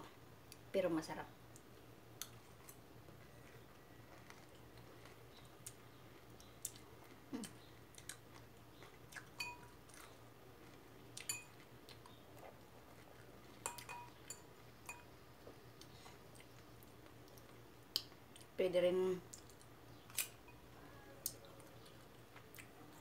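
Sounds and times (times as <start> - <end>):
person chewing salad: 1.5 - 18.5, 19.3 - 23.0.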